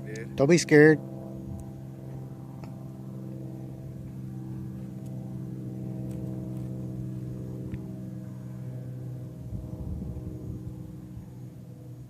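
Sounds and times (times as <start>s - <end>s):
idling motor hum: 0.0s - 12.0s.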